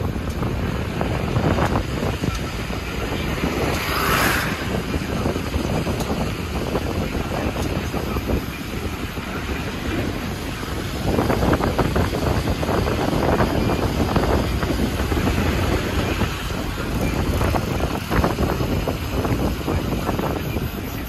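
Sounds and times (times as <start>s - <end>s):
motorcycle engine: 0.0s - 20.6s
wind on microphone: 0.0s - 21.0s.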